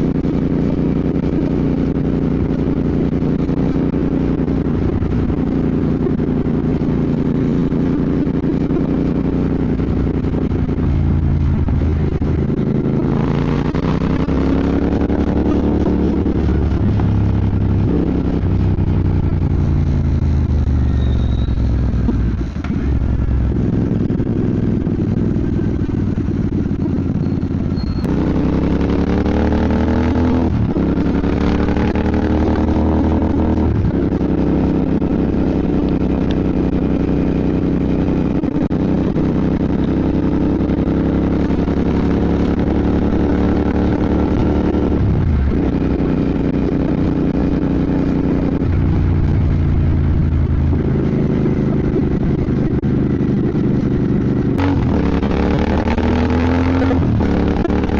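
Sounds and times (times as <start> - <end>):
motorcycle engine riding: 0.0 - 57.9.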